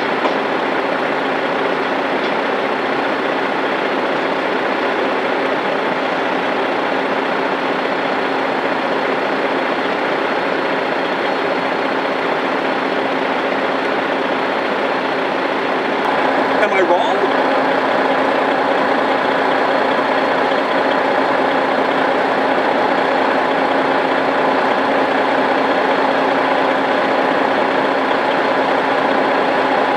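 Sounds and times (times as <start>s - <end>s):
diesel truck engine idling: 0.0s - 29.9s.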